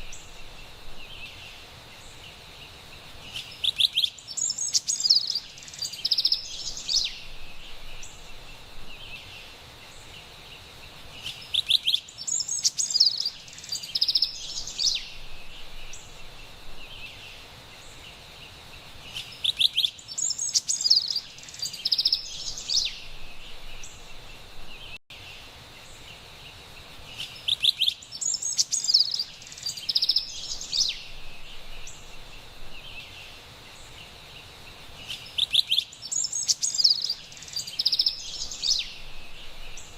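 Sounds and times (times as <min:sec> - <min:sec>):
wren singing: 0:00.0 - 0:18.1, 0:19.0 - 0:39.9.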